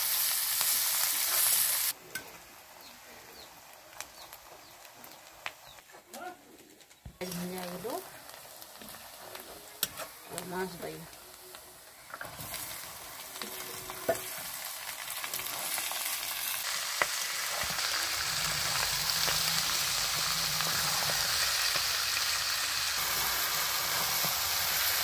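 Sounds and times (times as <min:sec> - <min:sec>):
chicken sizzling in hot oil: 0:00.0 - 0:05.8, 0:06.9 - 0:25.0.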